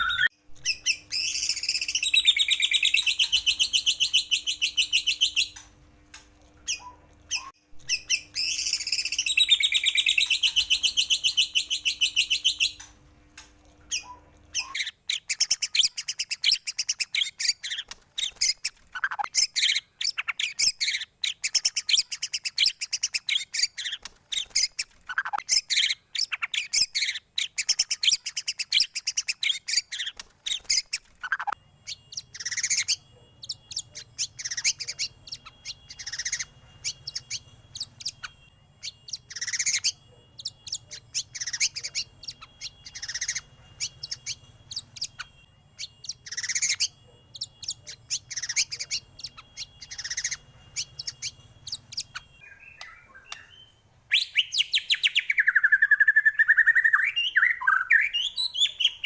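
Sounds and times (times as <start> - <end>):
bird song chirps and trills: 0.0 - 13.0, 13.8 - 59.0.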